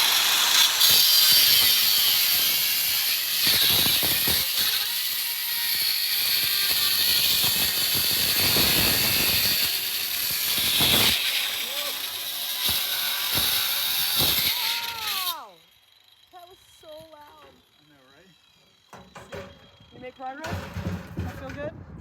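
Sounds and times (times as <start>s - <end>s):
angle grinder cutting metal: 0.0s - 21.0s.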